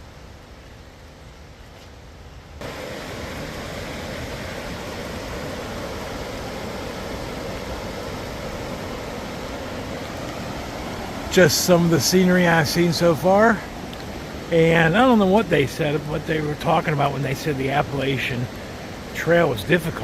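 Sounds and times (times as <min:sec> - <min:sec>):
water rushing: 0:00.0 - 0:20.0.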